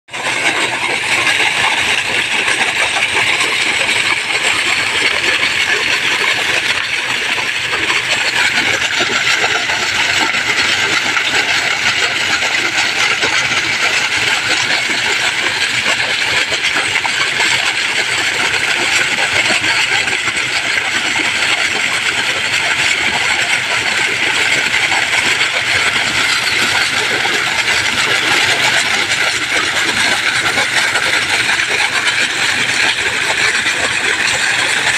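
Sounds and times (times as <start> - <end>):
water gushing from a pipe: 0.1 - 34.9.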